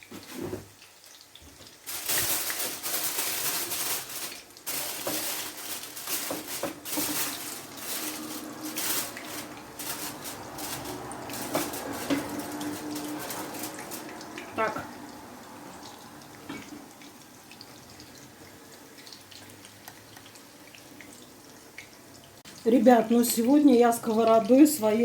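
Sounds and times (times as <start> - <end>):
water running into a sink: 0.0 - 25.0.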